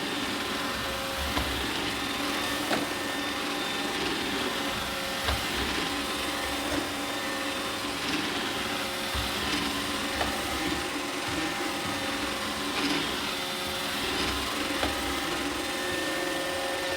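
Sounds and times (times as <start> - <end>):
robot vacuum whirring: 0.0 - 16.9.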